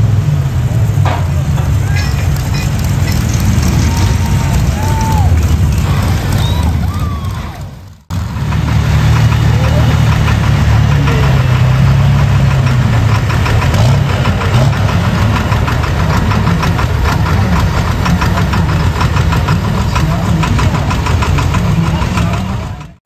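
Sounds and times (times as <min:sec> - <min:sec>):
diesel engine idling clatter: 0:00.0 - 0:23.0.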